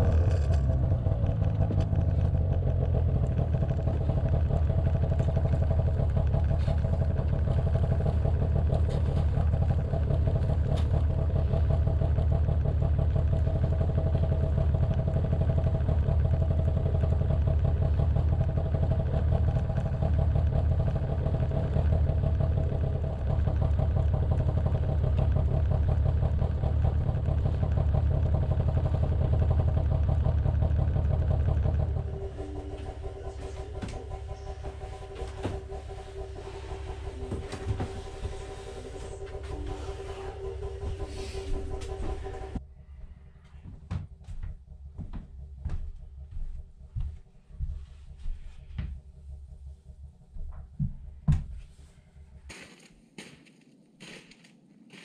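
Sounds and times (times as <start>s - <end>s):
snowmobile engine idling: 0.0s - 53.4s.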